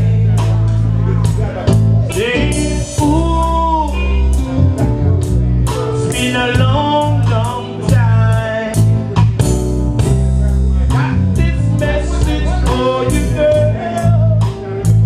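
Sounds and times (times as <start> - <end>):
man singing: 0.0 - 9.4, 10.4 - 15.0
heavy bass line: 0.0 - 15.0
reggae band playing: 0.0 - 15.0.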